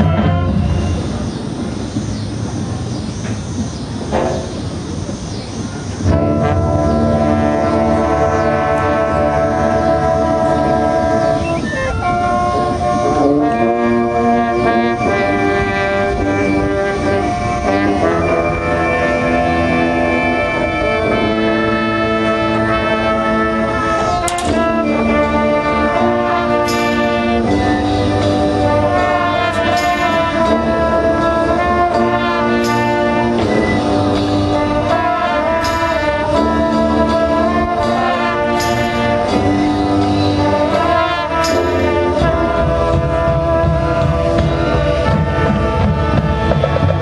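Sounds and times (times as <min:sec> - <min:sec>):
brass chords: 0:00.0 - 0:01.7, 0:06.0 - 0:47.0.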